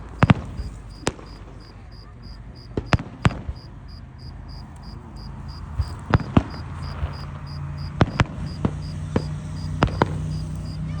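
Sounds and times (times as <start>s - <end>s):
cricket chirping: 0.0s - 11.0s
fireworks cracking: 0.0s - 11.0s.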